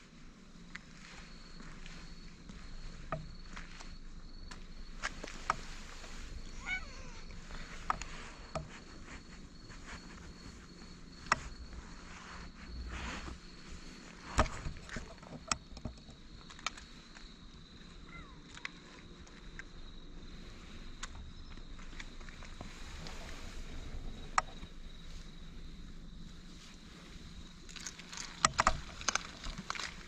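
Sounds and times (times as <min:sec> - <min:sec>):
high-pitched insect trill: 0:01.0 - 0:30.0.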